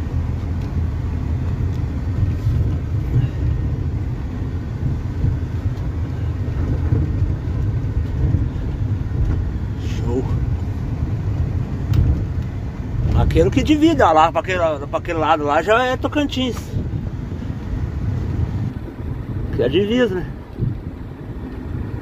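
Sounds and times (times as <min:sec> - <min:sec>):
van engine and tyre rumble: 0:00.0 - 0:22.0.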